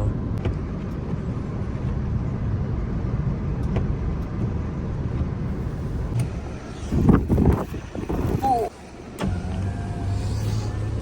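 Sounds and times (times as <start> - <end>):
van engine rumbling: 0.0 - 11.0.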